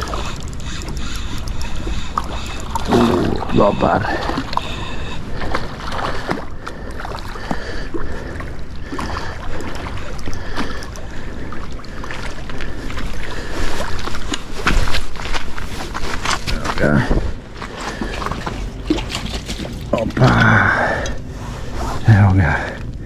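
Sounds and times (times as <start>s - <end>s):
fish splashing in shallow water: 0.0s - 16.5s, 17.7s - 20.5s.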